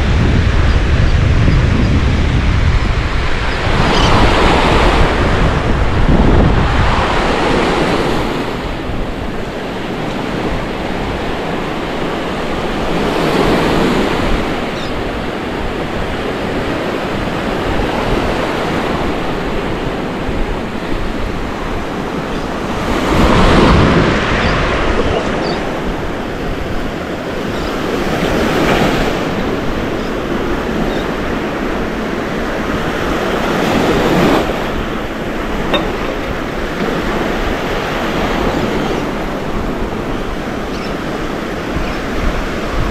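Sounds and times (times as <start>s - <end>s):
surf washing onto sandy beach: 0.0s - 42.9s.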